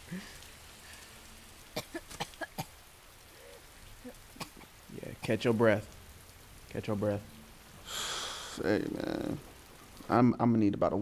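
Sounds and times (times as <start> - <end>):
faint rain falling: 0.0 - 11.0.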